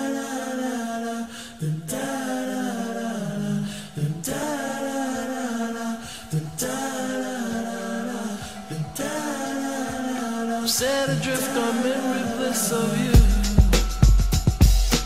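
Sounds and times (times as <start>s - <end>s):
music with held vocal notes: 0.0s - 15.0s.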